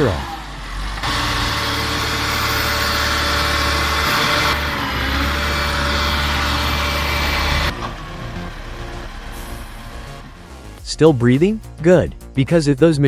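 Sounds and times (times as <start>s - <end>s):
heavy engine humming: 0.0s - 10.8s.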